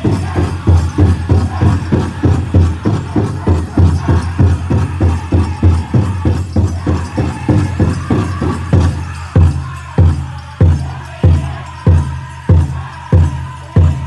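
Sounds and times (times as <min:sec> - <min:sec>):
big drum pounding fast beat: 0:00.0 - 0:14.0
group singing: 0:00.0 - 0:14.0.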